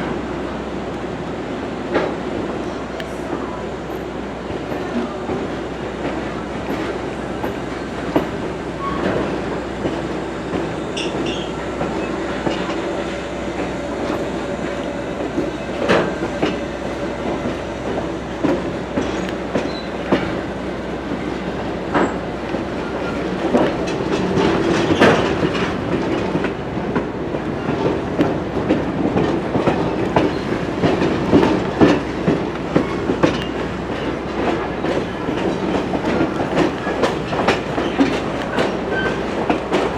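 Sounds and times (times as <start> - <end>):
train rolling rumble: 0.0 - 39.9
wheels clicking on rails: 2.9 - 39.9.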